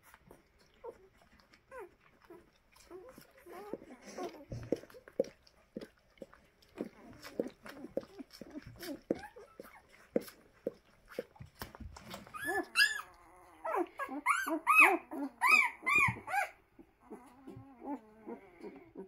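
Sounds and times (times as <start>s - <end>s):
puppies suckling: 0.0s - 19.0s
puppies whining: 0.3s - 5.3s, 6.8s - 10.5s, 11.1s - 19.0s.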